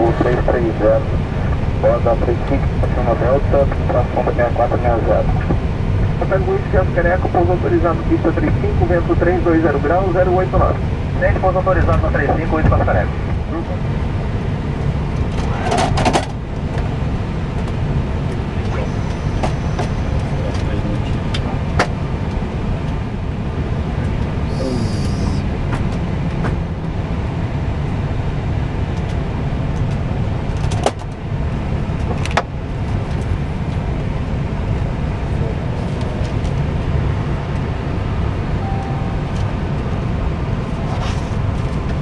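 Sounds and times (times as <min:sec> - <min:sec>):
cockpit hum and hiss: 0:00.0 - 0:42.0.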